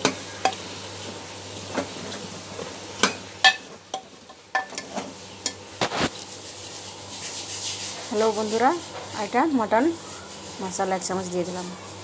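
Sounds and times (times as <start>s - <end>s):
meat frying hiss: 0.0s - 12.0s.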